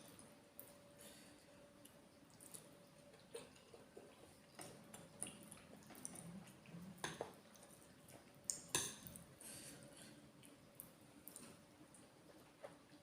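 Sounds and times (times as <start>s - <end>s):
wet chewing: 1.8s - 9.3s, 10.1s - 13.0s.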